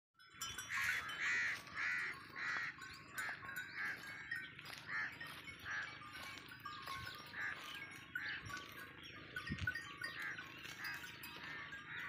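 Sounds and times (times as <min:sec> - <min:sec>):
bird calling: 0:00.5 - 0:12.0.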